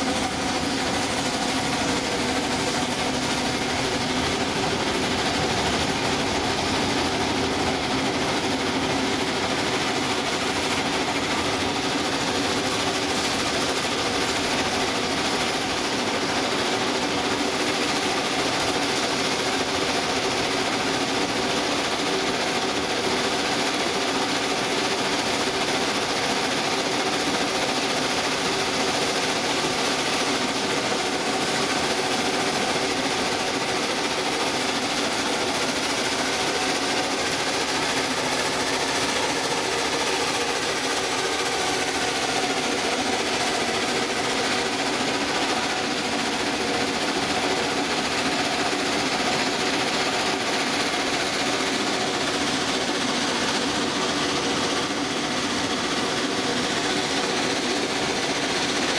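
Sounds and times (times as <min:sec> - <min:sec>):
steam hissing: 0:00.0 - 0:58.9
steam locomotive clatter: 0:00.0 - 0:58.9.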